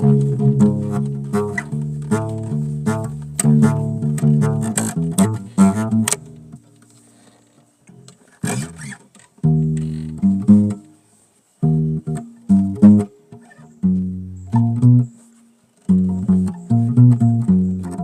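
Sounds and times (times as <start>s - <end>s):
bass guitar plucked: 0.0s - 6.8s, 7.9s - 11.0s, 11.6s - 18.0s.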